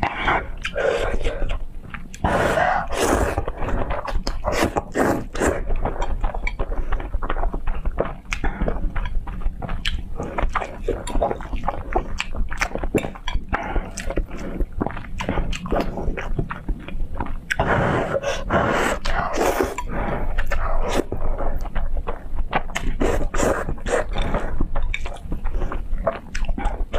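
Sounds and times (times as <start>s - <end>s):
person chewing and slurping noodles: 0.0s - 26.9s.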